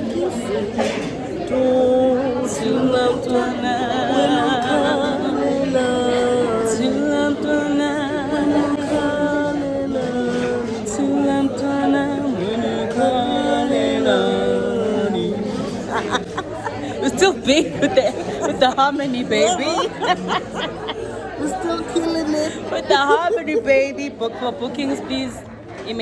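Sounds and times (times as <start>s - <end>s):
women singing a cappella: 0.0s - 26.0s.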